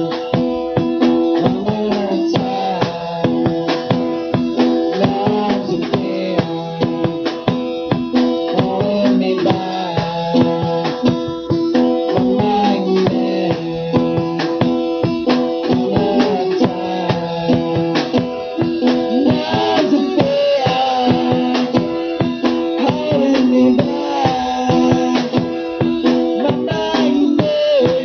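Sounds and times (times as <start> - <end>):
guitar with bent notes: 0.0 - 28.0
steady drum beat: 0.0 - 28.0.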